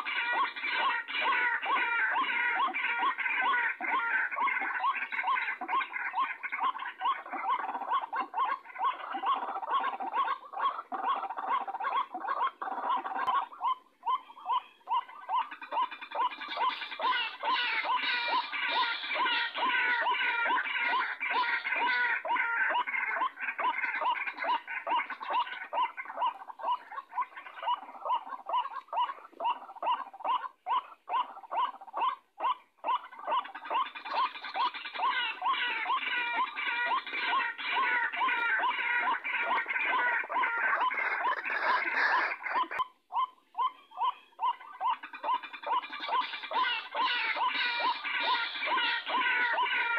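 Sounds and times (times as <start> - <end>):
waterhen calling: 0.0 - 49.9.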